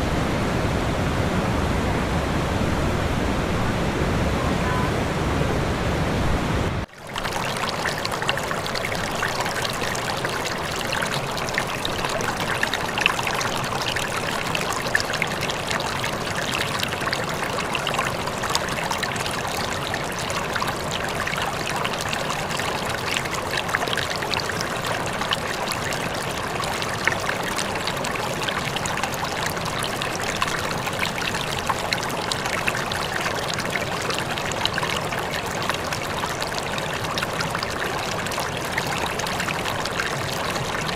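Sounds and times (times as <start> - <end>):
small waterfall splashing: 6.8 - 40.9.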